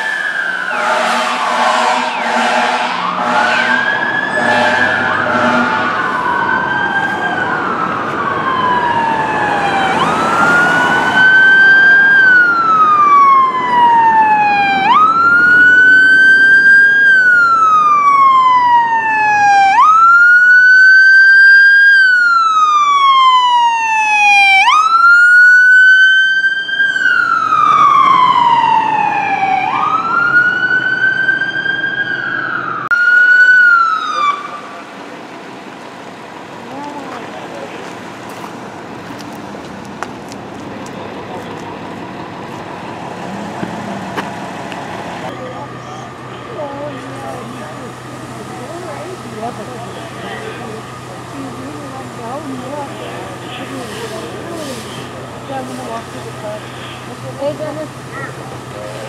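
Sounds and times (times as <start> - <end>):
emergency vehicle sirens wailing: 0.0 - 59.0.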